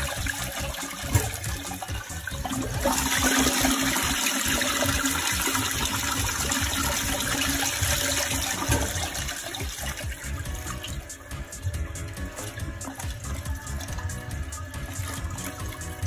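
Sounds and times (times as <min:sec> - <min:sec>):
toilet flushing: 0:00.0 - 0:16.0.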